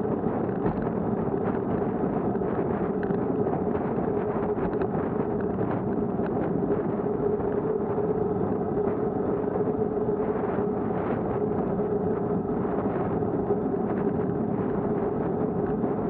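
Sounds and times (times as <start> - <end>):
mid-pitched hum: 0.0 - 16.0
wind and road noise: 0.0 - 16.0.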